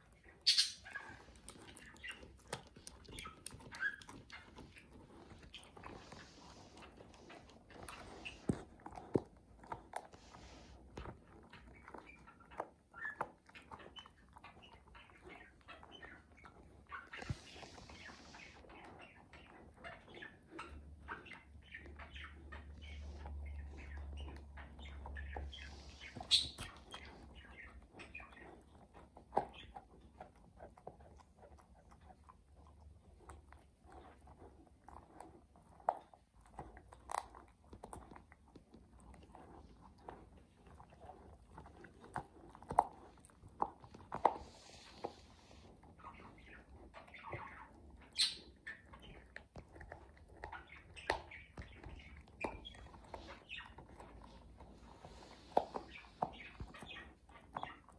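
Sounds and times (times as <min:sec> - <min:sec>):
dog gnawing chew bone: 0:00.0 - 0:57.9.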